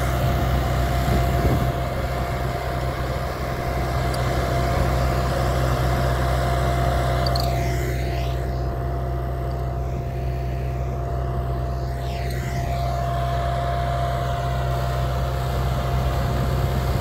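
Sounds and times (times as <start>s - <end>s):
high whine: 0.0s - 17.0s
tractor diesel engine running: 0.0s - 17.0s.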